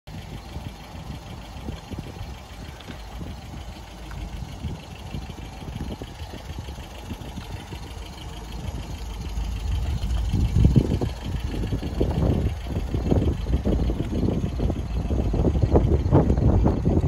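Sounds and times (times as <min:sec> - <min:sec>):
car engine idling: 0:00.1 - 0:17.0.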